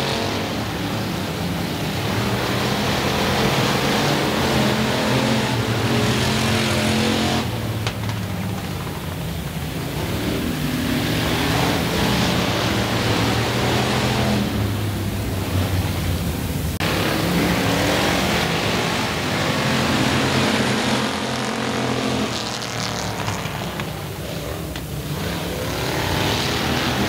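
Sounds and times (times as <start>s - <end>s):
race car engines passing: 0.0s - 27.0s
tyres on dirt: 0.0s - 27.0s.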